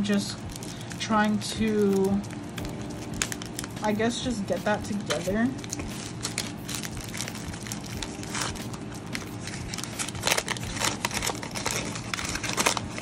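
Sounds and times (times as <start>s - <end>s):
air conditioner hum: 0.0s - 13.0s
plastic packaging crinkling: 0.0s - 13.0s.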